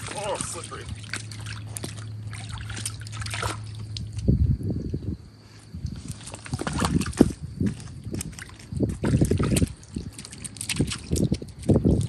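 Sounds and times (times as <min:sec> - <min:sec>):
dog paws splashing water: 0:00.0 - 0:04.3, 0:05.9 - 0:12.0.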